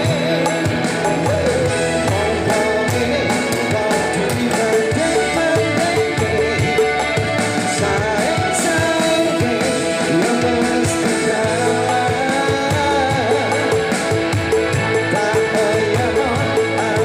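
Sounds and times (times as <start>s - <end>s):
guitar: 0.0s - 17.0s
man singing: 0.0s - 17.0s.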